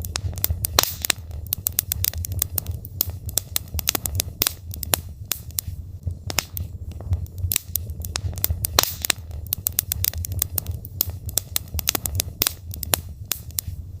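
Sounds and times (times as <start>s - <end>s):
logs crackling and popping: 0.0s - 14.0s
low rumble of fire: 0.0s - 14.0s.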